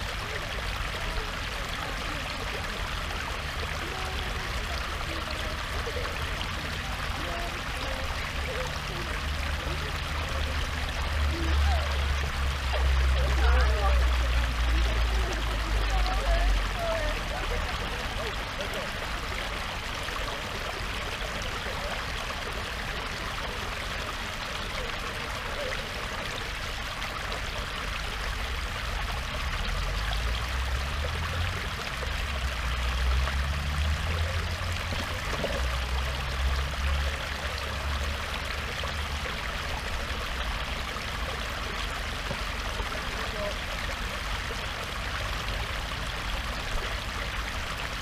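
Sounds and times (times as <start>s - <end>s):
water pouring into pond: 0.0s - 48.0s.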